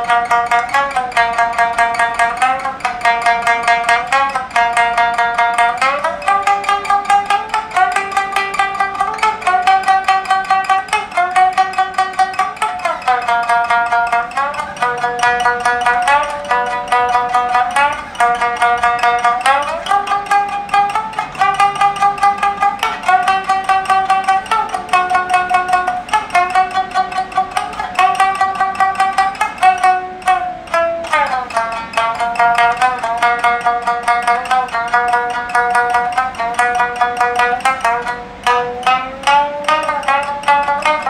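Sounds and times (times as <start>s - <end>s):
shamisen plucked melody: 0.0s - 41.0s.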